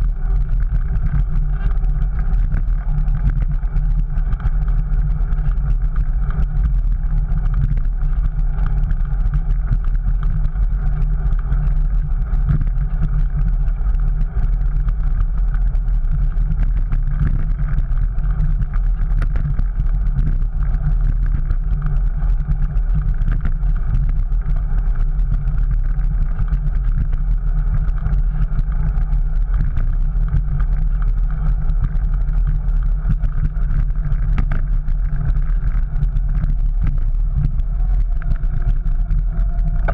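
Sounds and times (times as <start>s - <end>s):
bicycle rumbling over brick paving: 0.0s - 39.9s.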